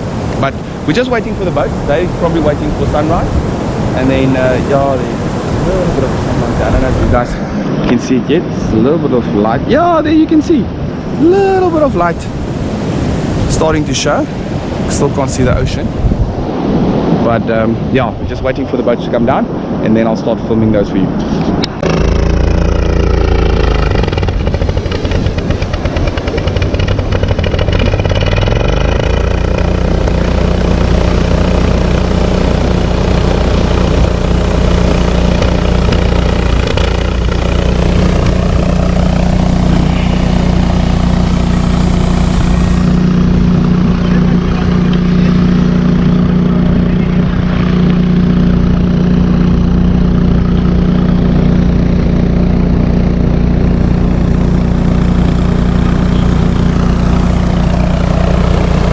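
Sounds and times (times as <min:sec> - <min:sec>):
vehicle engine running: 0:00.0 - 0:15.7, 0:21.6 - 0:58.9.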